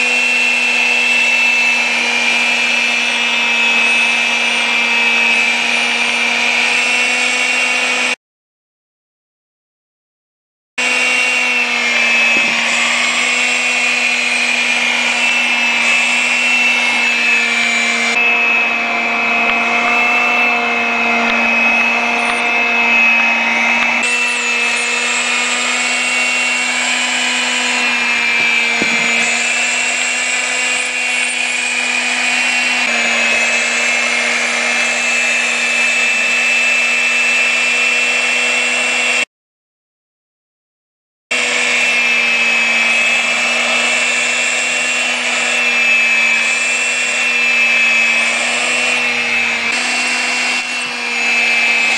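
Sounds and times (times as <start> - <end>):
vacuum cleaner running: 0.0 - 8.2, 10.8 - 39.3, 41.3 - 51.9.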